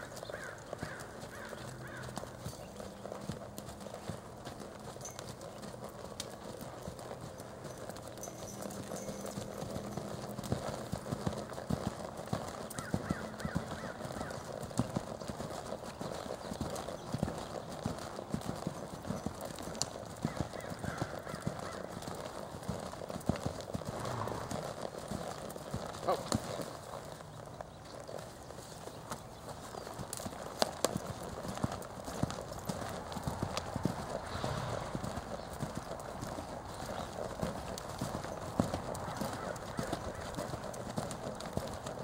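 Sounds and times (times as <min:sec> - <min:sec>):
horse hoofbeats on soft dirt: 0:00.0 - 0:42.0.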